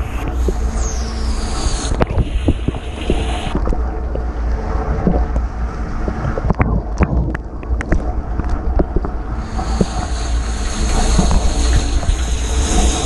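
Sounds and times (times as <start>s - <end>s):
water spraying and splashing: 0.0s - 5.4s, 6.0s - 13.0s.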